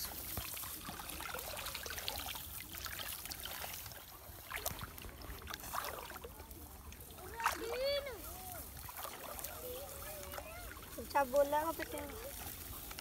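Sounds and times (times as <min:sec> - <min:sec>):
light splashes: 0:00.0 - 0:13.0
shallow water trickling: 0:00.0 - 0:13.0.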